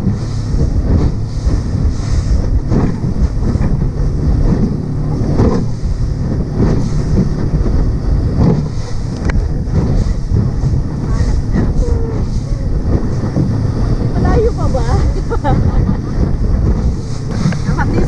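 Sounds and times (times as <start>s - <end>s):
boat engine drone: 0.0s - 18.0s
hull slapping waves: 0.0s - 18.0s
wind buffeting microphone: 0.0s - 18.0s.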